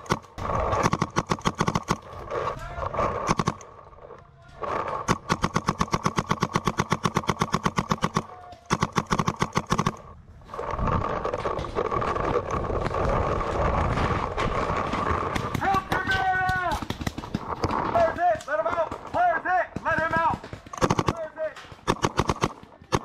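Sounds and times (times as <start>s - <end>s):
paintball marker rapid firing: 0.0s - 3.6s, 4.7s - 10.1s, 11.1s - 23.0s.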